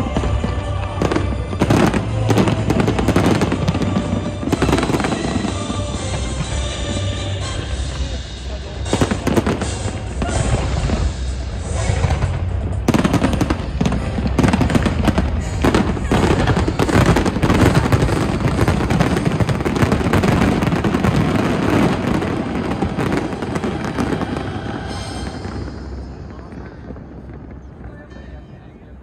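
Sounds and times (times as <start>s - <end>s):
fireworks bangs and crackling: 0.0s - 29.0s
music: 0.0s - 29.0s.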